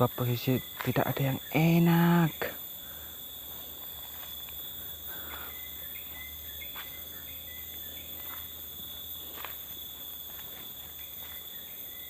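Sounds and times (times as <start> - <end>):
crickets droning: 0.0 - 12.0
short insect chirps: 0.0 - 12.0.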